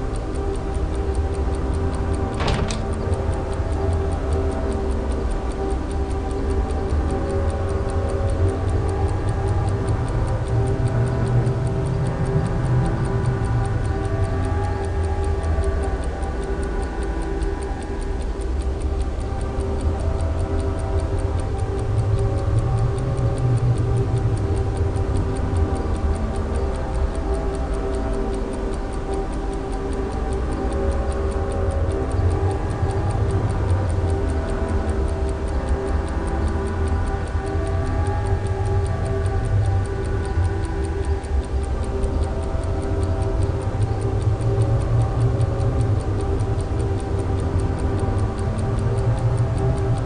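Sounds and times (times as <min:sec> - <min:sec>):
clock-like ticking: 0:00.0 - 0:50.0
low drone of held tones: 0:00.0 - 0:50.0.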